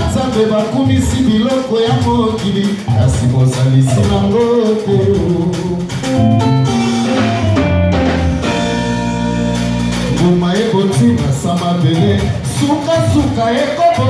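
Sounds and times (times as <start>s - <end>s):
man singing: 0.0s - 7.7s, 10.1s - 14.0s
band music with drums and guitar: 0.0s - 14.0s.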